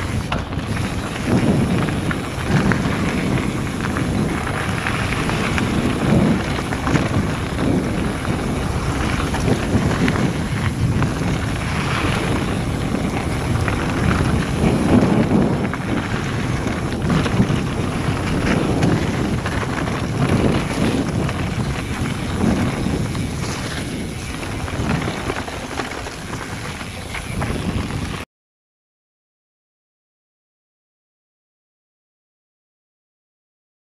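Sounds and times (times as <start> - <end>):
bike jolting over bumps: 0.0 - 28.2
wind rushing over microphone: 0.0 - 28.2
bike tyre noise: 0.0 - 28.3.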